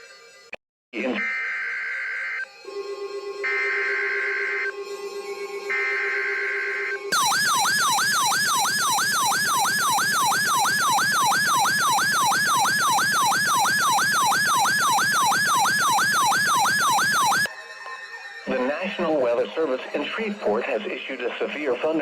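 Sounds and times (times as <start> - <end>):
electronic siren yelping: 1.0 - 5.0, 5.6 - 19.3.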